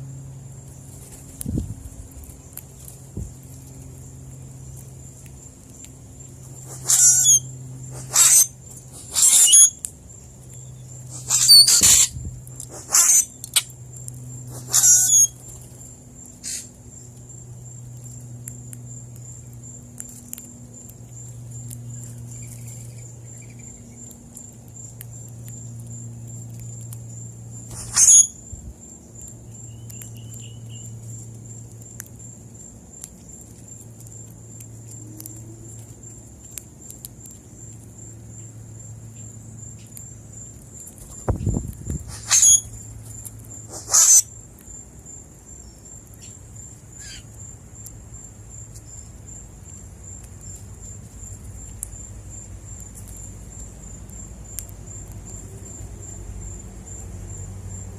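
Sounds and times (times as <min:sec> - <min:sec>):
high insect trill: 0:00.0 - 0:57.9.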